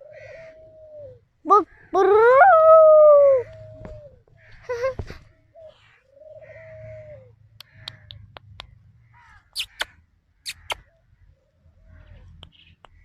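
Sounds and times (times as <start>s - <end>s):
birds calling: 0.0s - 2.4s, 3.3s - 13.0s.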